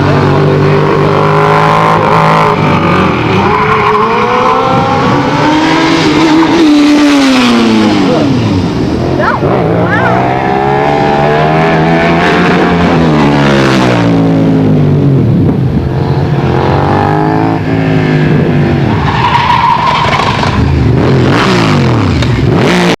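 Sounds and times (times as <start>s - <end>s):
motorcycles passing: 0.0s - 23.0s.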